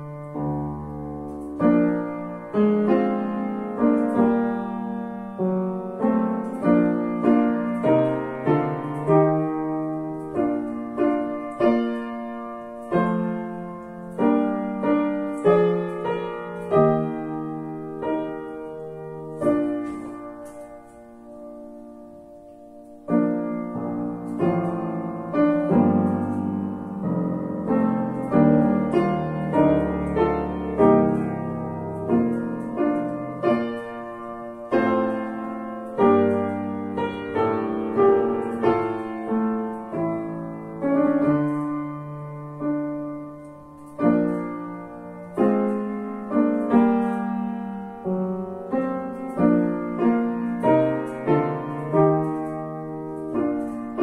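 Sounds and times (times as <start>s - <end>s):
grand piano playing a hymn: 0.0s - 54.0s.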